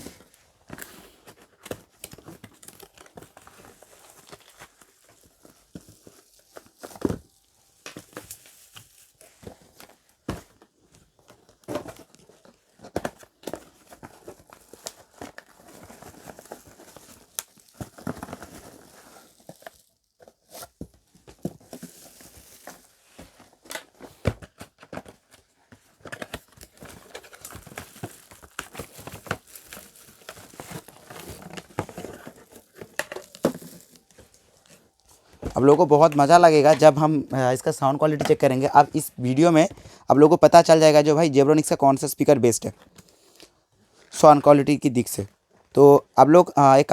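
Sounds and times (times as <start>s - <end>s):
packaging crinkling and tearing: 0.0s - 37.7s.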